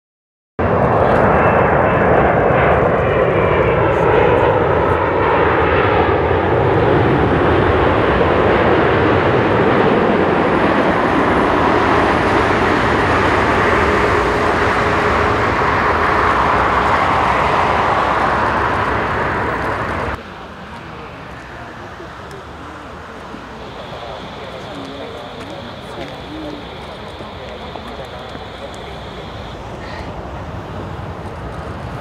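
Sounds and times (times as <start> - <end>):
faint jet engine whine: 0.6 - 32.0
jet airliner engines roaring: 0.6 - 32.0.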